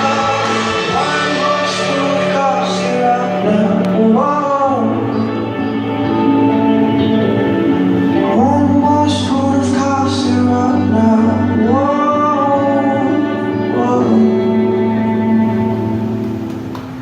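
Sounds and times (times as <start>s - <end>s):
pulsing bass line: 0.0s - 16.5s
person singing long sliding notes: 0.0s - 16.7s.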